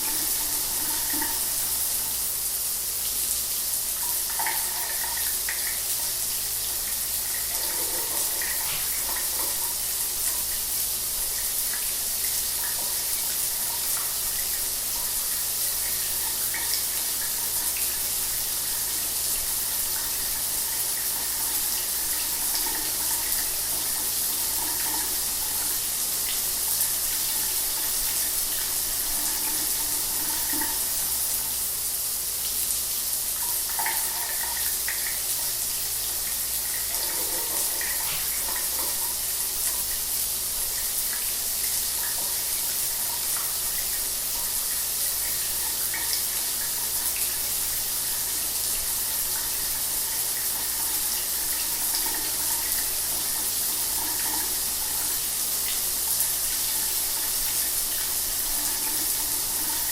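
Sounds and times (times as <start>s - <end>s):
shower water spraying: 0.0s - 59.9s.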